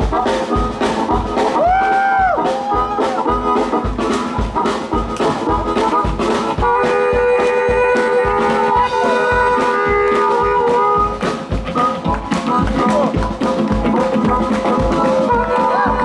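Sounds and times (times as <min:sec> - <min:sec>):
blues band playing: 0:00.0 - 0:16.0
blues harmonica bent note: 0:00.0 - 0:16.0
drum kit beat: 0:00.0 - 0:16.0.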